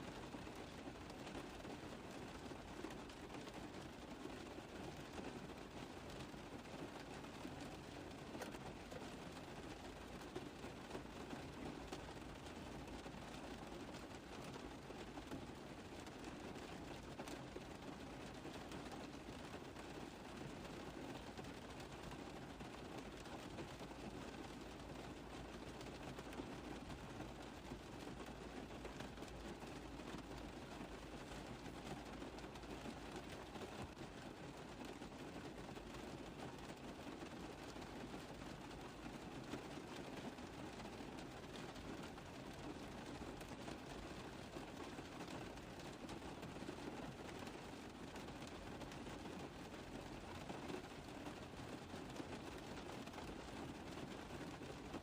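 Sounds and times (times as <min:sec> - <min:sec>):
rain tapping on a car roof: 0:00.0 - 0:55.0.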